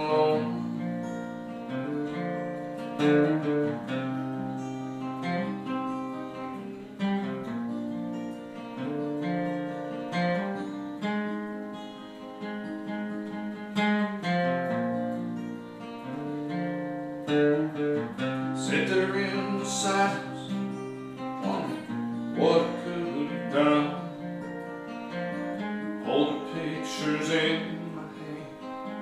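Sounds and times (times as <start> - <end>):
acoustic guitar strummed: 0.0 - 29.0.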